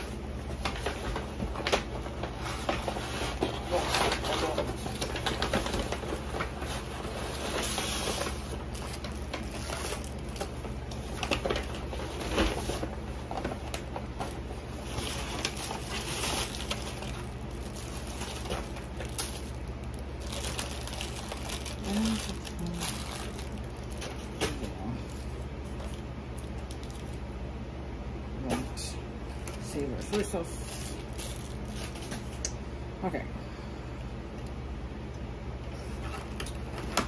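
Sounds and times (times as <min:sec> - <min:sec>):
takeout bags rustling and crinkling: 0:00.0 - 0:27.3, 0:29.4 - 0:32.4, 0:35.8 - 0:37.0
steady low hum: 0:00.0 - 0:37.0.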